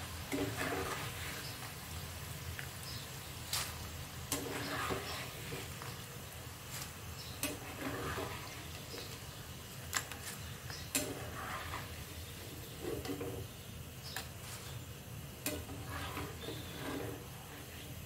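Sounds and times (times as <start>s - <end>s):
frying in hot oil sizzle: 0.0s - 18.0s.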